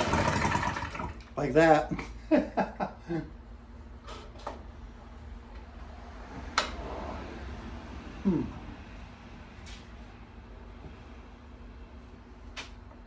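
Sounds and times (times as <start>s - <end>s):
steady low hum: 1.1s - 13.0s.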